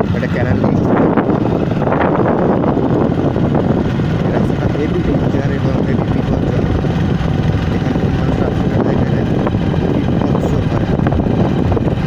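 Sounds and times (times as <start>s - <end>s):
motorbike engine cruising: 0.0s - 12.0s
road and wind noise: 0.0s - 12.0s.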